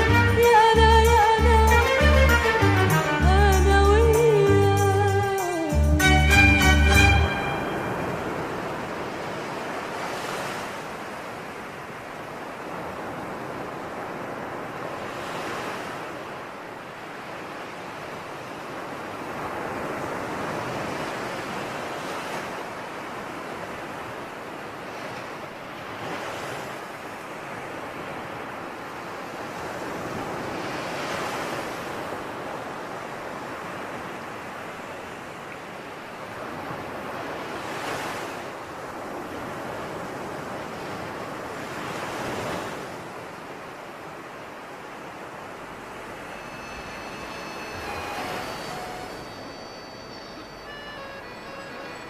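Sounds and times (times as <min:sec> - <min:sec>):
sea waves breaking on shore: 0:00.0 - 0:52.0.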